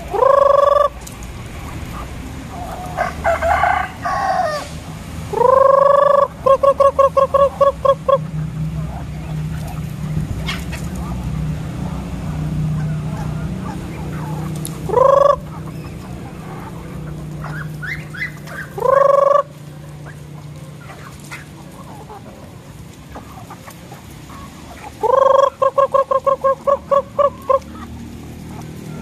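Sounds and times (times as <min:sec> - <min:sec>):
chickens calling: 0:00.0 - 0:29.0.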